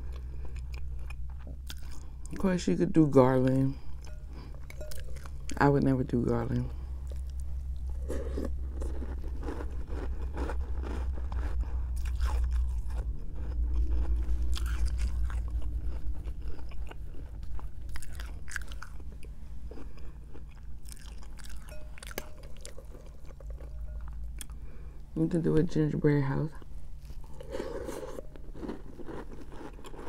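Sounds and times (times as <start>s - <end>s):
crunching and chewing cereal: 0.0s - 2.7s, 3.6s - 5.6s, 6.2s - 25.1s, 26.6s - 30.0s
steady low hum: 0.0s - 30.0s.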